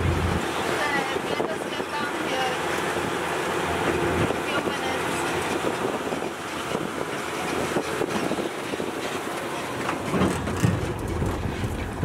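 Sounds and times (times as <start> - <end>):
road train engine and rolling: 0.0 - 12.0.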